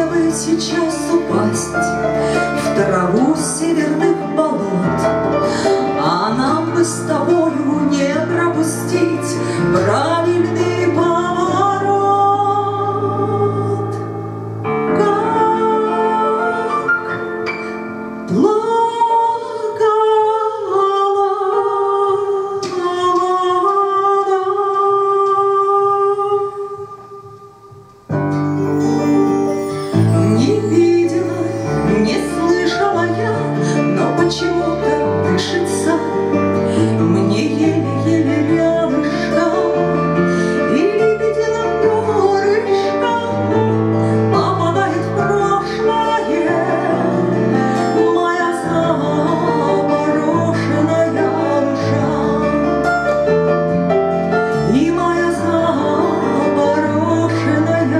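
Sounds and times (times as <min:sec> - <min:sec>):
woman singing into microphone: 0:00.0 - 0:17.3, 0:18.2 - 0:28.0, 0:28.8 - 0:53.3, 0:53.9 - 0:57.9.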